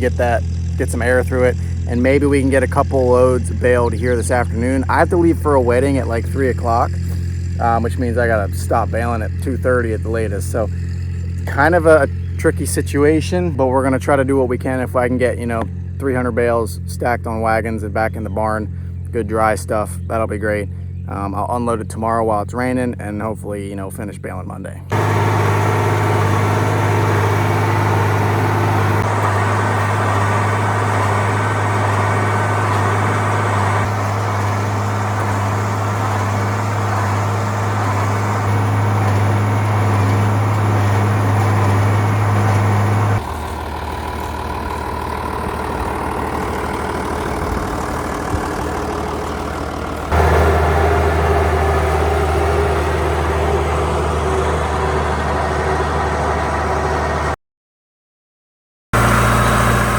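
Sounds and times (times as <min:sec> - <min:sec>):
farm machinery engines running: 0:00.0 - 0:21.5, 0:24.8 - 0:57.4, 0:59.0 - 0:59.9.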